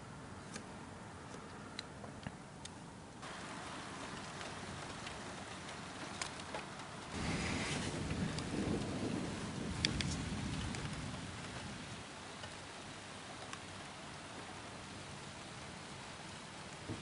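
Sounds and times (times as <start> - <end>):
steady rain hiss: 0.0 - 17.0
low rumble of thunder: 3.3 - 17.0.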